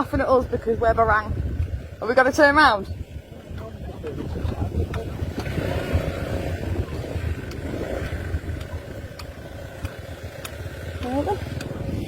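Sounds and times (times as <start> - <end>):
motorbike engine rumbling: 0.0 - 12.0.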